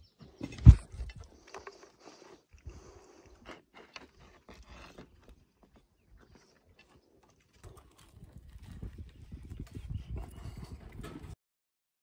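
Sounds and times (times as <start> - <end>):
chewing: 1.0 - 11.0.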